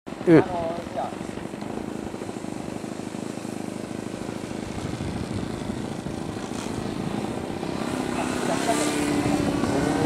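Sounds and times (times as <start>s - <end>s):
model plane engine buzzing: 0.1s - 10.0s.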